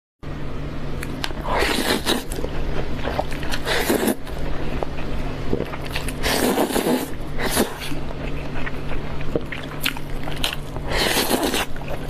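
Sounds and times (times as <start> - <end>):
steady low hum: 0.2 - 12.0
wet chewing and mouth sounds: 1.0 - 12.0.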